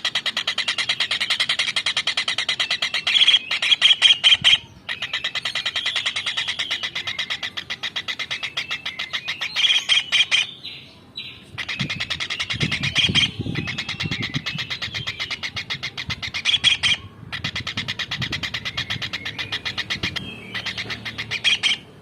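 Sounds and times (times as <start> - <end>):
kingfisher trilling call: 0.0 - 10.6, 11.6 - 21.9.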